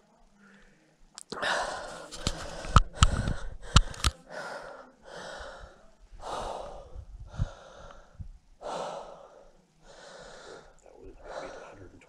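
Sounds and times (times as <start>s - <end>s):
person breathing hard: 1.3s - 11.8s.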